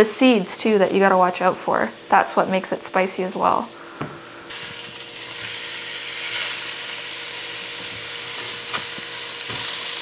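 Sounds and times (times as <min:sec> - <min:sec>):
fish fillets sizzling in a skillet: 0:00.0 - 0:10.0.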